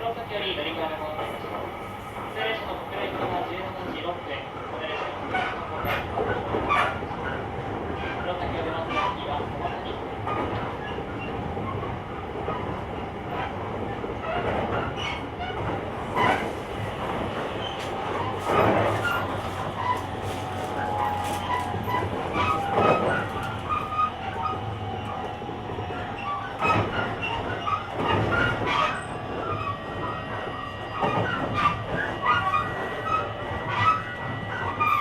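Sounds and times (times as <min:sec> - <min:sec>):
train running rumble: 0:00.0 - 0:35.0.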